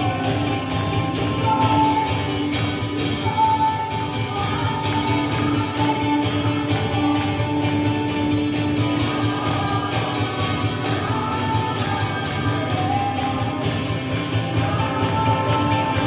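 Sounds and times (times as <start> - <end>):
worship music with steady beat: 0.0 - 16.0.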